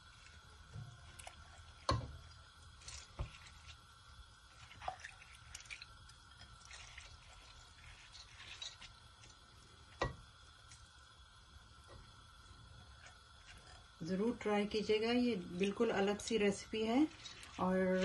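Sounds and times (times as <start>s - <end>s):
wet food sliding and dripping: 0.0s - 18.0s.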